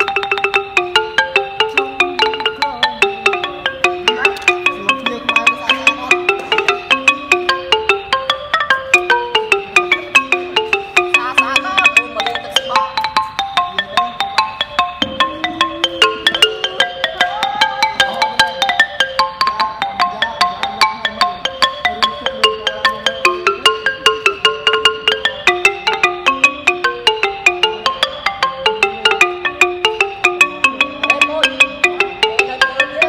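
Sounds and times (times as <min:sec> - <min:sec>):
wooden xylophone played with mallets: 0:00.0 - 0:33.0.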